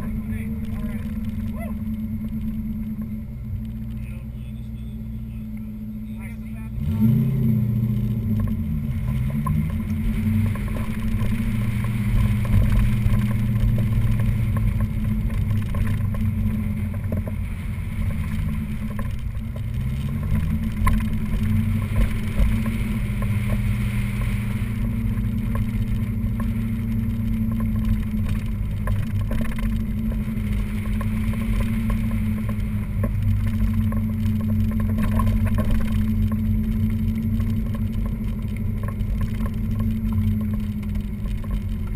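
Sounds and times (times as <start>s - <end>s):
car engine accelerating hard: 0.0s - 41.9s.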